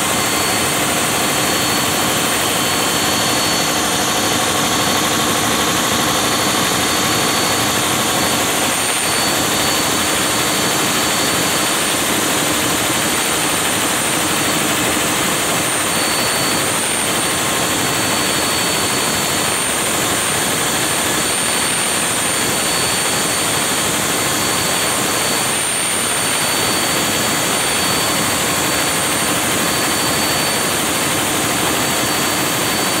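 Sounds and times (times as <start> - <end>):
generator running: 0.0 - 33.0
high whine: 0.0 - 33.0.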